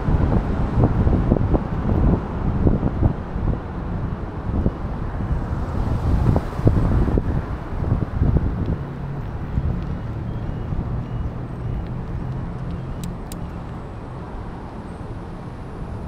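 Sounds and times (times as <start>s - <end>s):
road noise: 0.0s - 16.0s
vehicle engine humming: 0.0s - 16.0s.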